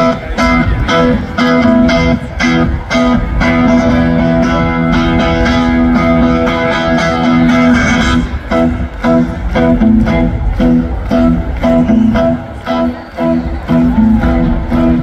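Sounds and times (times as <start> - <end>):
electric guitars: 0.0 - 15.0
live band playing loudly: 0.0 - 15.0.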